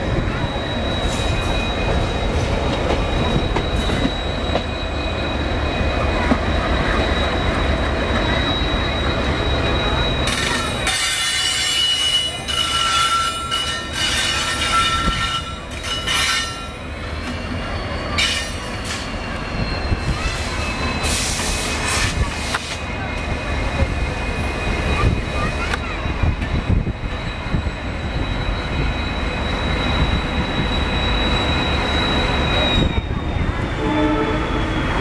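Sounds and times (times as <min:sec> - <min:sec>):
high-pitched wheel squeal: 0:00.0 - 0:22.5, 0:23.4 - 0:35.0
train wheels rumbling on rail: 0:00.0 - 0:35.0.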